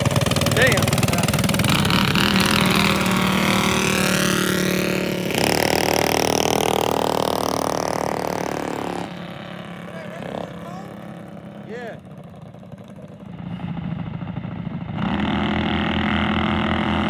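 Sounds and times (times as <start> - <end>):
minibike engines at full throttle: 0.0 - 17.0.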